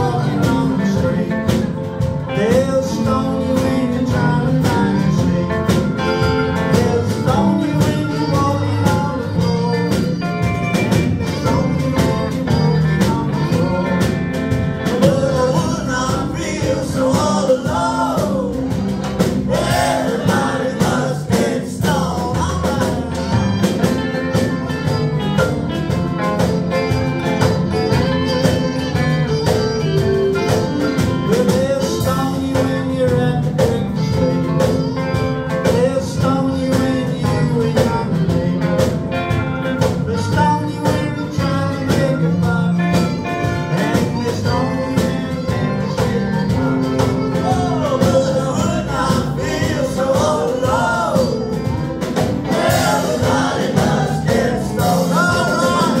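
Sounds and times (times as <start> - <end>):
person singing: 0.0 - 10.5, 11.2 - 18.8, 19.4 - 24.9, 25.7 - 56.0
drum kit beat: 0.0 - 56.0
electric guitars: 0.0 - 56.0.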